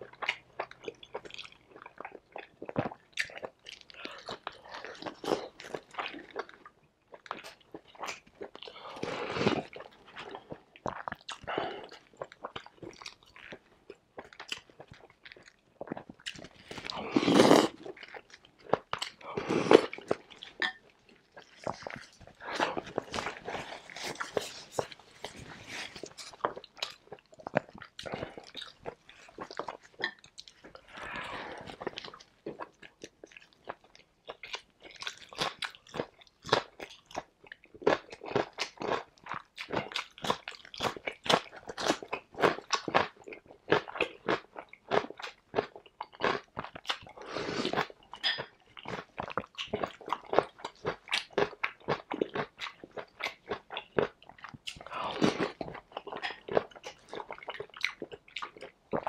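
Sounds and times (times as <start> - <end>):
crisp crunching and chewing: 0.0 - 59.0.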